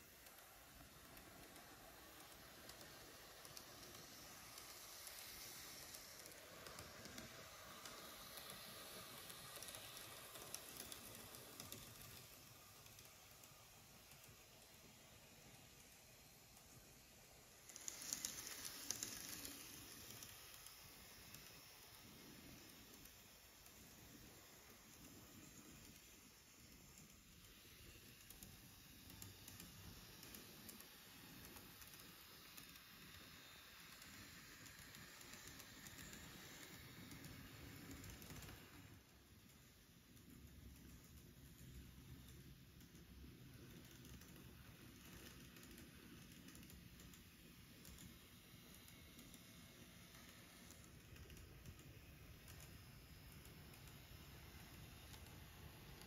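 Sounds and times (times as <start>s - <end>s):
model train whirring: 0.0s - 56.0s
wheels clicking on rails: 0.0s - 56.0s.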